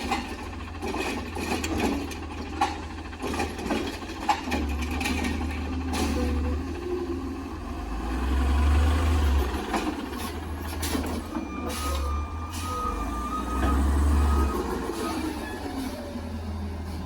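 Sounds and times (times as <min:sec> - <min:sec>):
garbage truck engine rumble: 0:00.0 - 0:17.0.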